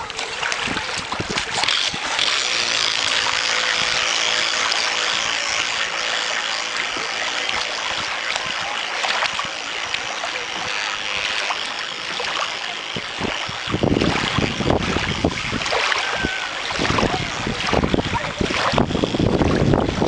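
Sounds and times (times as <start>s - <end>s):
faint motor tone: 0.0s - 20.0s
waves splashing on stony shore: 0.0s - 20.0s.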